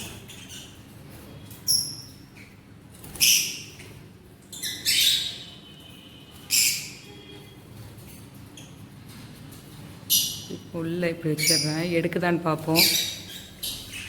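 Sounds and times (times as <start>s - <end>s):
bird chirping: 0.0s - 7.4s, 10.0s - 14.0s
birds squawking: 0.0s - 7.8s, 10.0s - 14.0s.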